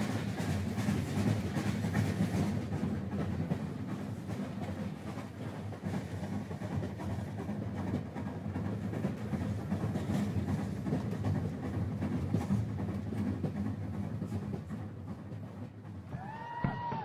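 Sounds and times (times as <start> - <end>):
model train rumbling on track: 0.0 - 17.0.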